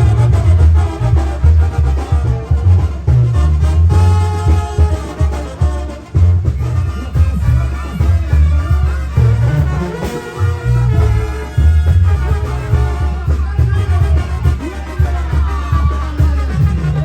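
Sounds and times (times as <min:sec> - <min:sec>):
brass band playing: 0:00.0 - 0:17.0
tuba bass line: 0:00.0 - 0:17.0.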